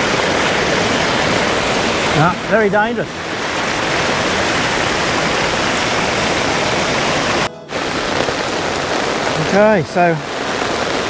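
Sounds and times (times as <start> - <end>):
floodwater rushing down creek: 0.0 - 11.0.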